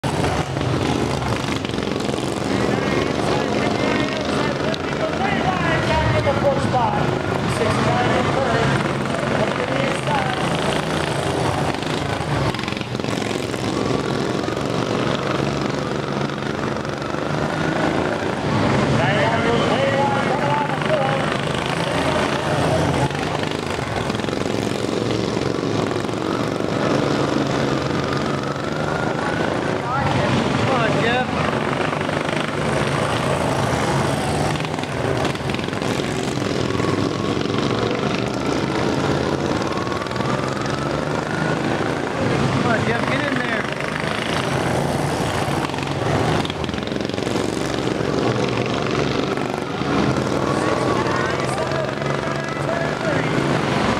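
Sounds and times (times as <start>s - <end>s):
lawn mower engines buzzing: 0.0s - 53.9s.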